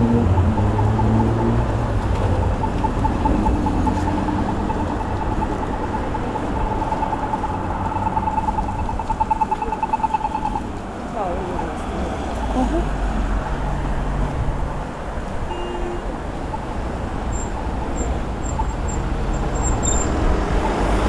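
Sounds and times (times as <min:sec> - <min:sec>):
crossing signal beeping: 0:00.0 - 0:12.9, 0:15.4 - 0:21.0
car engine passing: 0:00.0 - 0:15.3, 0:16.1 - 0:21.0
road traffic: 0:00.0 - 0:21.0.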